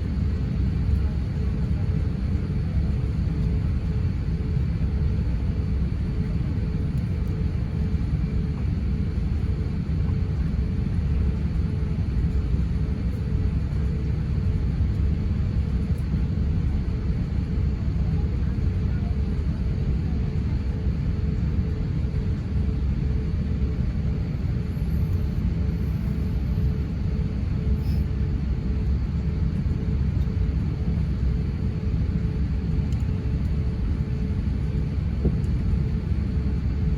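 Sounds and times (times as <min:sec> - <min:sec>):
airplane cabin rumble: 0:00.0 - 0:36.9
faint steady hum: 0:00.0 - 0:36.9.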